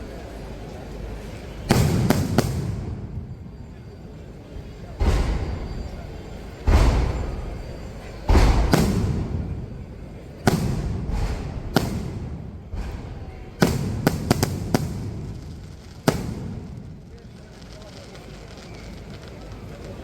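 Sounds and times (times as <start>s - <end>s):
fireworks bangs: 0.0s - 20.0s
rolling rumble of fireworks: 0.0s - 20.0s.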